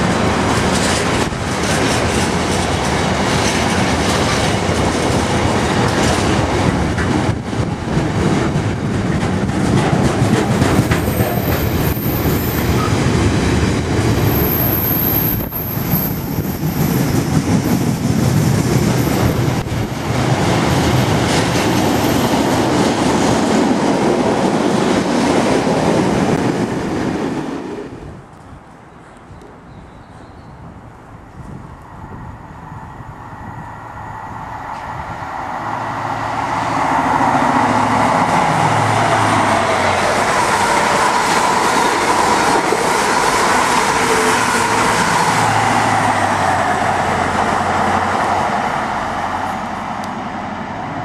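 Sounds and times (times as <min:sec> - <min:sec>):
train wheels rumbling on rails: 0:00.0 - 0:28.7, 0:30.8 - 0:51.0.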